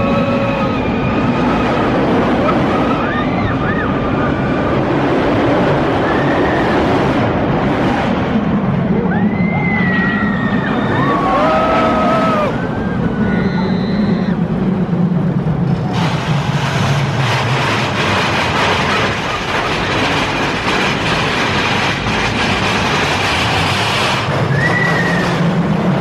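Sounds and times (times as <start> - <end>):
roller coaster rushing and rattling: 0.0 - 26.0.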